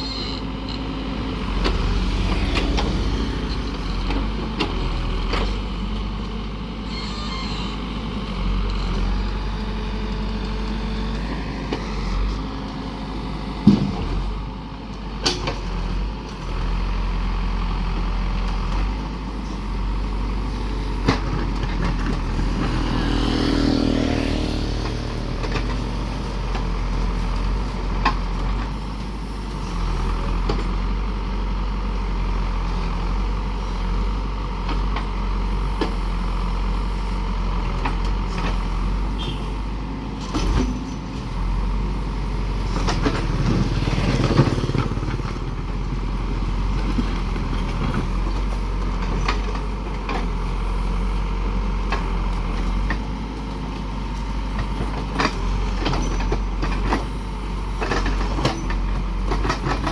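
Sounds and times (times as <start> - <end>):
heavy diesel machine running: 0.0 - 59.9.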